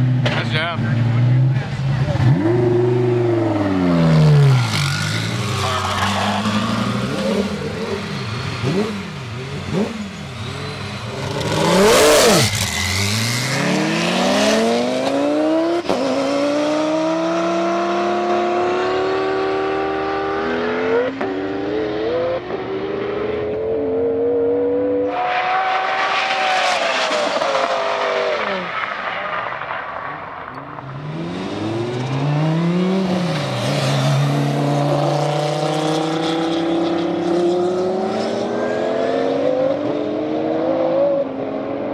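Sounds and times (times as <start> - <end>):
car engine revving hard with shifts: 0.0 - 28.9, 30.9 - 41.9.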